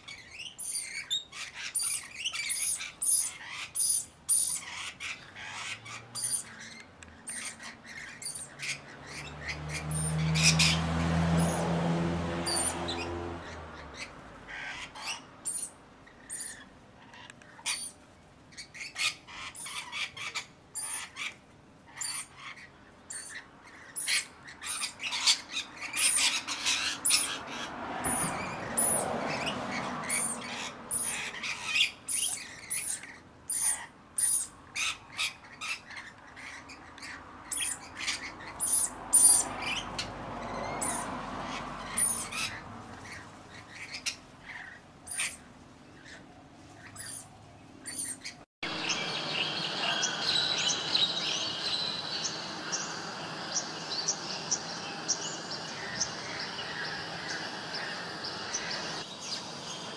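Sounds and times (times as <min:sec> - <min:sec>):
birds squawking and chirping: 0:00.0 - 0:59.9.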